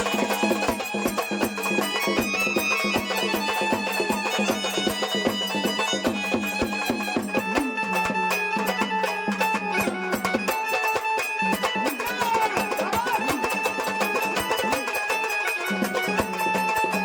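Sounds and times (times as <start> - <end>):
hand drum strokes: 0.0 - 17.0
held melody: 0.0 - 17.0.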